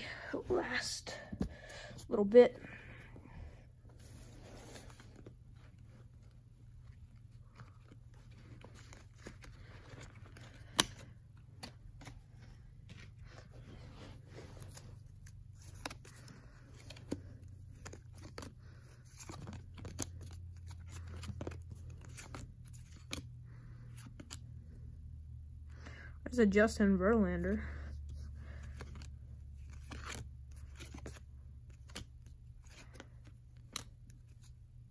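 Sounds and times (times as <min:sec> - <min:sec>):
cards rustling and sliding: 0:03.9 - 0:24.8, 0:27.9 - 0:34.9.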